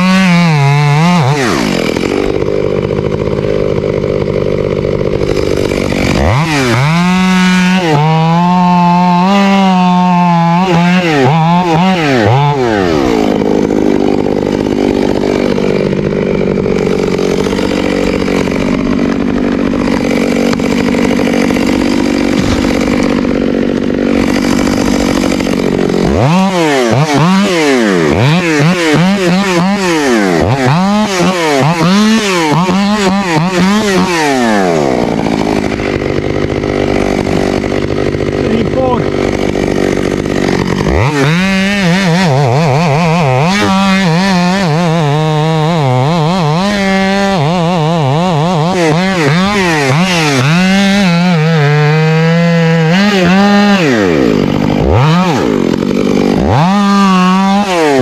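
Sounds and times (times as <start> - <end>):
chainsaw running at high revs: 0.0 - 58.0.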